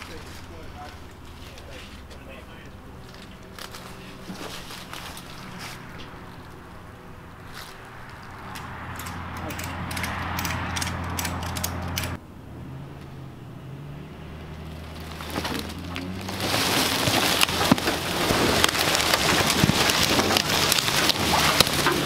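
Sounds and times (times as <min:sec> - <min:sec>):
dry brush crackling and snapping: 0:00.0 - 0:06.8, 0:07.4 - 0:12.2, 0:14.6 - 0:22.0
pickup engine hum: 0:00.0 - 0:22.0.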